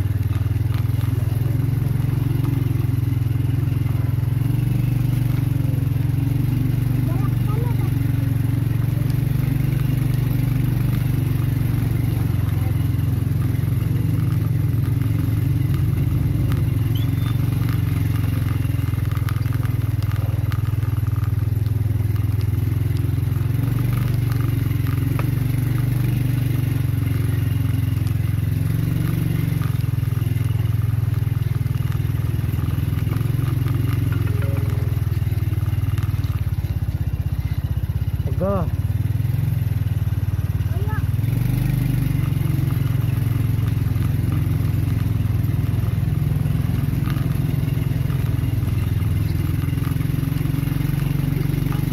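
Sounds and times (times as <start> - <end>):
gravel crunching under tyres: 0.0 - 51.9
small motorcycle engine running: 0.0 - 51.9.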